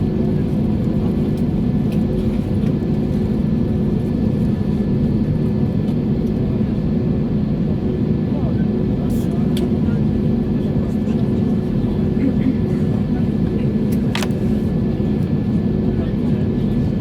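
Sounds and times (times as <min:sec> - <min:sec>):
low rumble inside aircraft cabin: 0:00.0 - 0:17.0.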